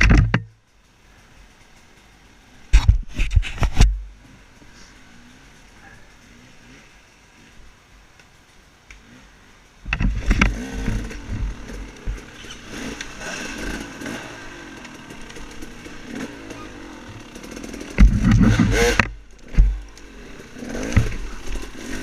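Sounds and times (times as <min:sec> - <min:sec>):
motorcycle engine revving: 0:03.8 - 0:22.0.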